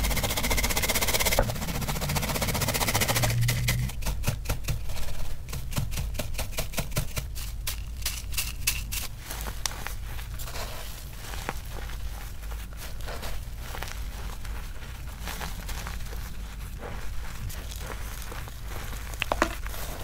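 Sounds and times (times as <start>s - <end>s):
chalk crunching against mesh: 0.0s - 20.0s
powder sifting hiss: 0.0s - 20.0s.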